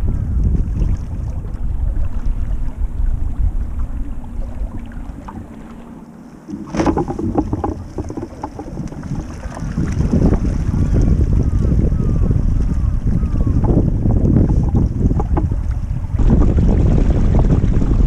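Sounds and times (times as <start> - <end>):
water washing along hull: 0.0 - 18.0
wind buffeting microphone: 0.0 - 18.0
sail rustling and splashing: 0.4 - 18.0.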